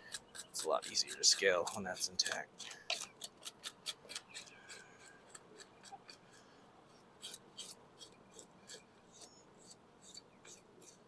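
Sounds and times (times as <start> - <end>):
knife scraping fish scales: 0.0 - 11.0.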